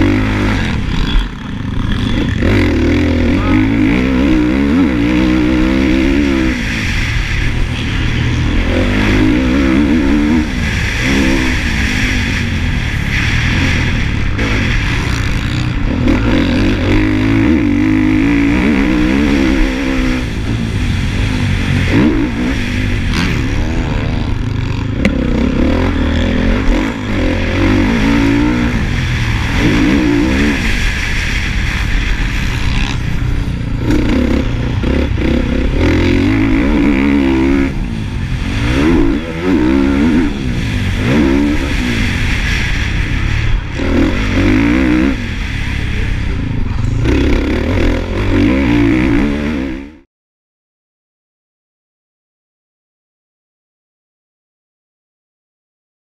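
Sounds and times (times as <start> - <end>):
wind noise: 0.0 - 49.9
motocross bike engine revving: 0.0 - 50.0.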